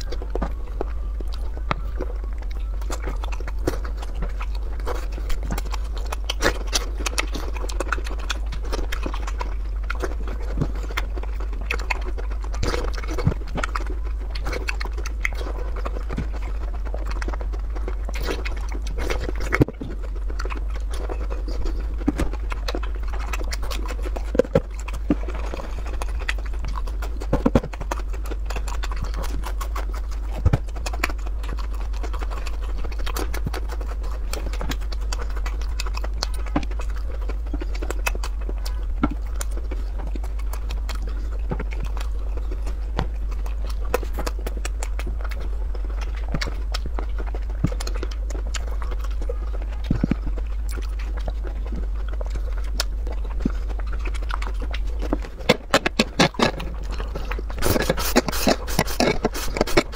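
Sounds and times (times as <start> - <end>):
chewing and biting food: 0.0 - 59.9
low hum: 0.0 - 59.9
mouth clicks and smacks: 0.0 - 59.9.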